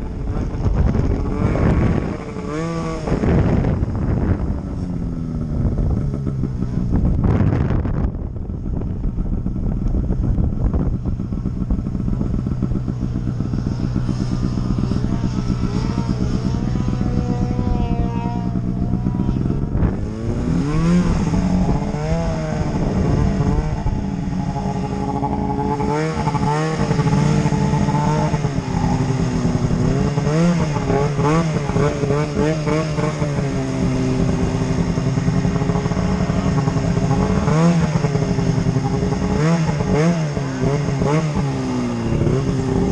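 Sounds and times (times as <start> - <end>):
snowmobile engine revving: 0.0 - 42.9.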